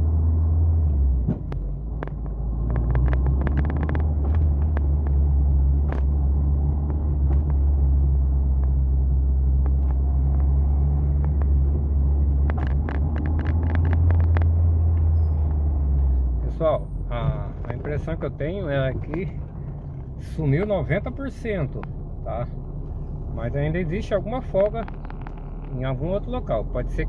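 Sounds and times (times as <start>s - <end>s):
car engine low rumble: 0.0s - 27.0s
light clicks and ticks: 1.5s - 16.6s, 17.2s - 23.1s, 23.9s - 27.0s.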